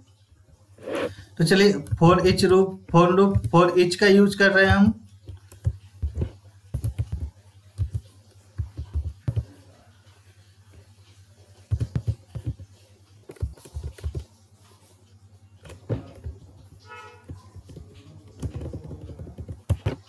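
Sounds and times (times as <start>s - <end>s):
computer keyboard typing: 1.0s - 9.9s, 11.5s - 14.4s, 15.6s - 20.0s.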